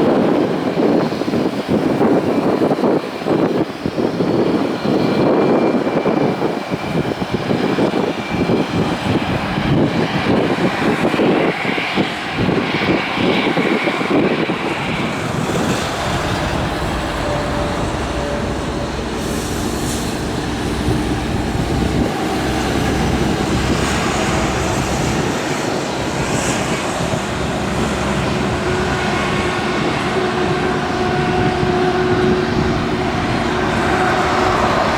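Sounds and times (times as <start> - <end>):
jet engines rushing: 0.0 - 34.9
wind buffeting microphone: 0.0 - 34.9
faint engine whine: 0.7 - 34.9.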